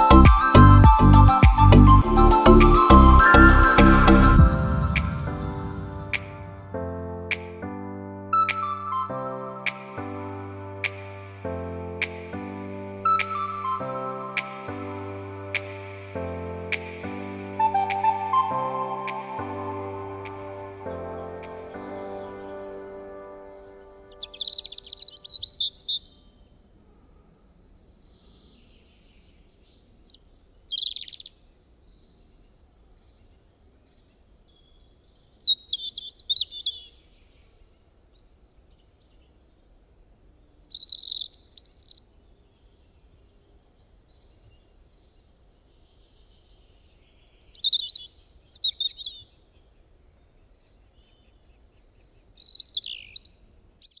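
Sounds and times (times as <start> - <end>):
faint outdoor background hiss: 0.0 - 54.0
songbird singing: 8.3 - 54.0.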